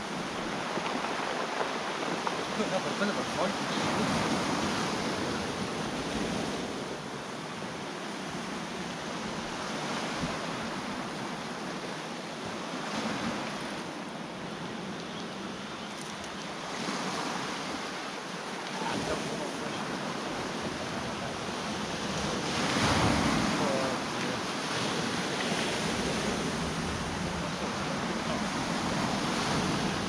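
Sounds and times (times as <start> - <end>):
sea waves washing onto shore: 0.0 - 30.0
wind on microphone: 0.0 - 30.0.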